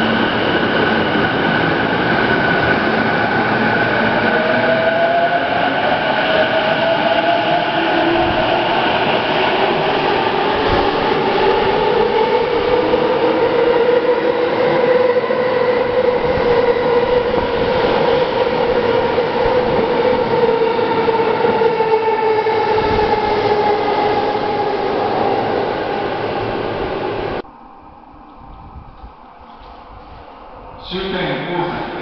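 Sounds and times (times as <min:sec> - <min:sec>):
train wheel and rail noise: 0:00.0 - 0:32.0.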